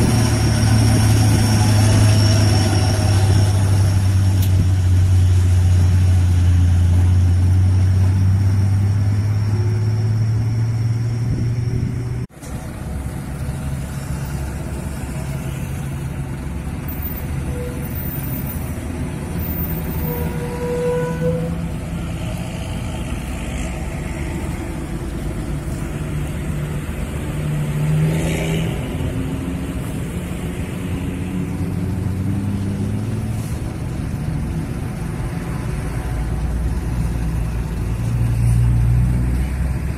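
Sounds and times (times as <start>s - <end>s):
heavy diesel truck engine: 0.0s - 39.9s
road traffic passing: 0.0s - 39.9s.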